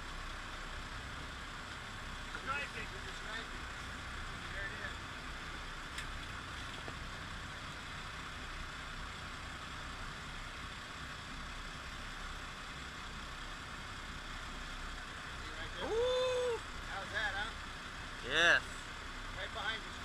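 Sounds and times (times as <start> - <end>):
boat engines running: 0.0 - 20.0.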